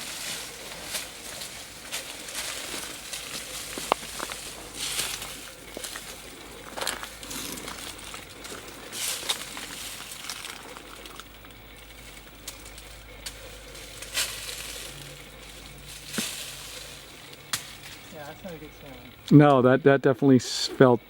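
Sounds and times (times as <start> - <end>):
footsteps on loose soil: 0.0 - 19.6.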